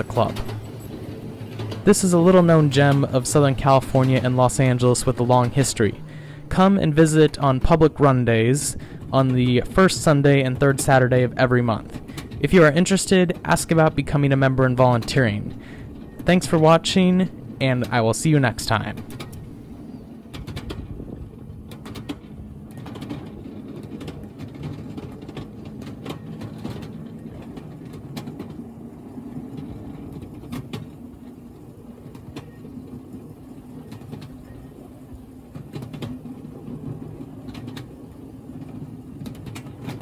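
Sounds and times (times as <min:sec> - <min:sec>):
train wheels rumbling: 0:00.0 - 0:40.0
wheels clicking over rail joints: 0:00.0 - 0:40.0.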